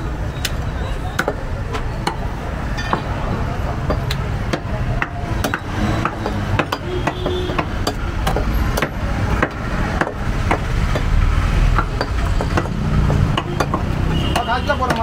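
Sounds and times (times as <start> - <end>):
cleaver chopping meat and bone: 0.4 - 3.1, 3.8 - 15.0.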